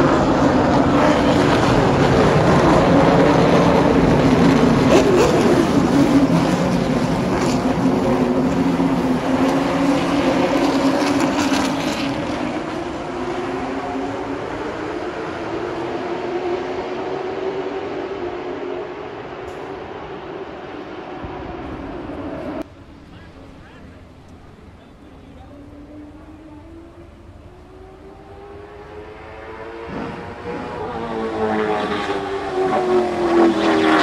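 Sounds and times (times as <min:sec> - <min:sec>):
race cars passing: 0:00.0 - 0:34.0.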